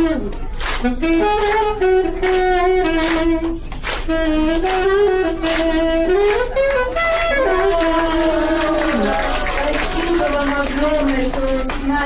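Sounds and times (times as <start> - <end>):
saxophone melody: 0.0 - 11.1
hand claps: 0.3 - 0.8, 1.4 - 2.4, 3.0 - 12.0.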